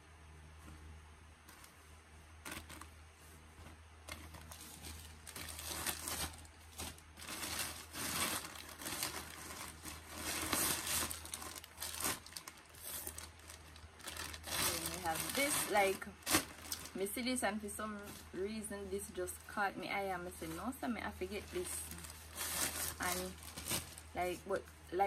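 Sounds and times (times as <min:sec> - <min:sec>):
plastic bag crinkling: 0:02.4 - 0:02.9, 0:03.6 - 0:24.8.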